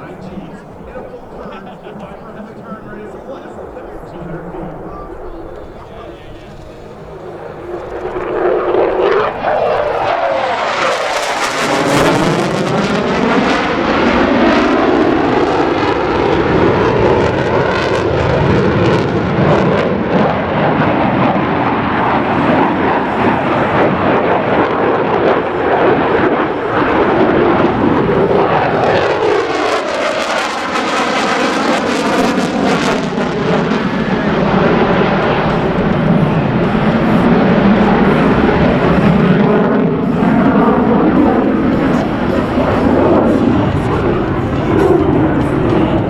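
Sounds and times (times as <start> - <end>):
jet engine roaring: 0.0 - 46.0.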